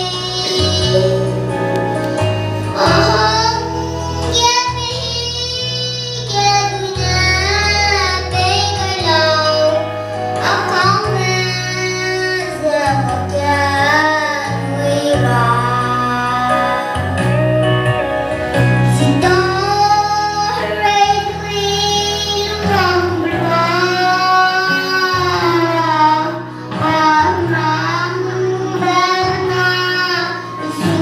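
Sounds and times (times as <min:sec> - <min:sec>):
girl singing into microphone: 0:00.0 - 0:17.4, 0:18.5 - 0:31.0
electronic keyboard bass notes: 0:00.0 - 0:31.0.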